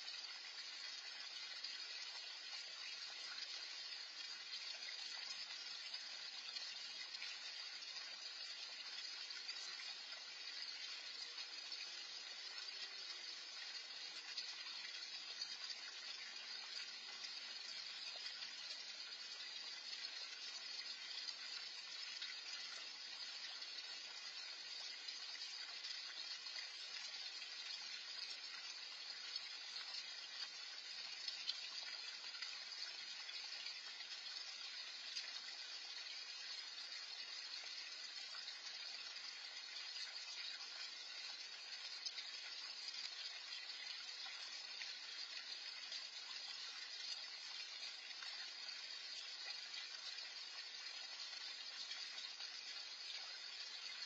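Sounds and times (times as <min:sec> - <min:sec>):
fountain splashing into pond: 0:00.0 - 0:54.0.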